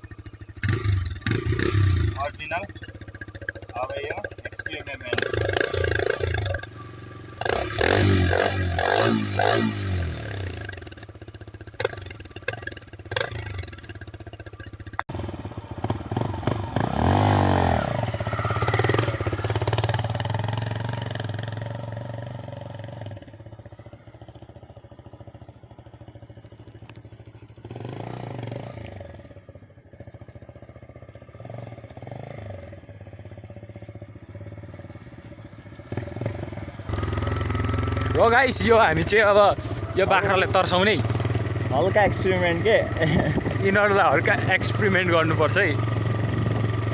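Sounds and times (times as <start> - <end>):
motorcycle engine revving and idling: 0.0 - 46.9
exhaust cracks: 0.1 - 46.9.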